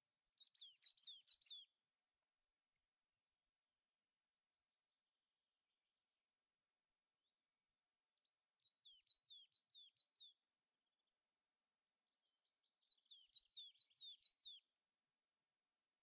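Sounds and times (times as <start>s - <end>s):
songbird singing faintly: 0.0s - 5.4s, 6.4s - 14.8s.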